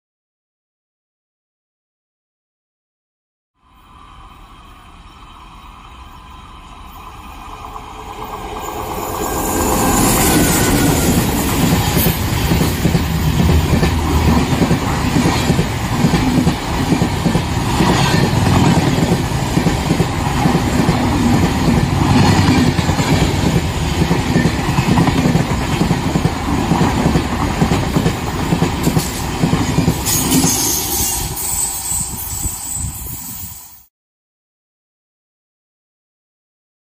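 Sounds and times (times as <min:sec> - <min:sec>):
train coaches rushing past: 0:03.8 - 0:33.9.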